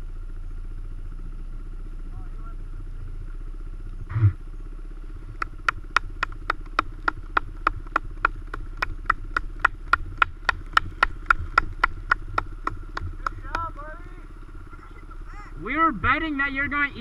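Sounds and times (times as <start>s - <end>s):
dirt bike idling: 0.0s - 17.0s.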